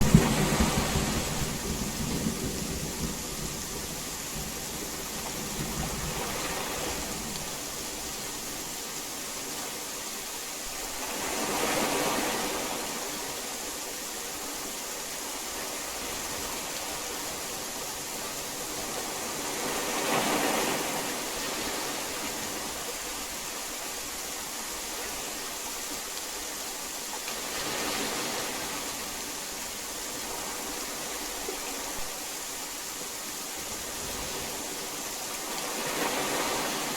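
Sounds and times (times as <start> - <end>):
heavy rain hissing: 0.0 - 36.9.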